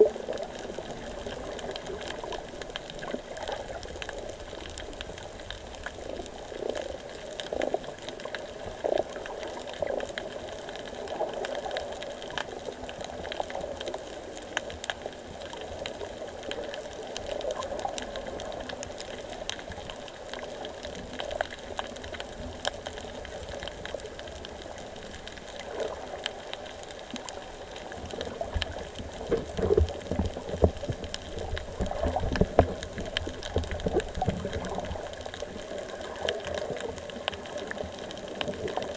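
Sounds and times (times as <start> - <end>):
faint clicks: 0.0 - 38.9
muffled underwater wash: 0.0 - 38.9.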